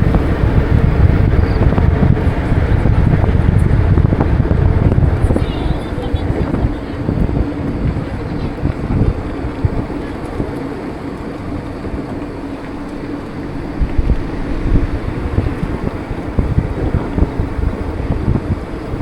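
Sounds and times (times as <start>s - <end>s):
faint steady hum: 0.0s - 19.0s
road and traffic noise: 0.0s - 19.0s
wind buffeting microphone: 0.0s - 19.0s.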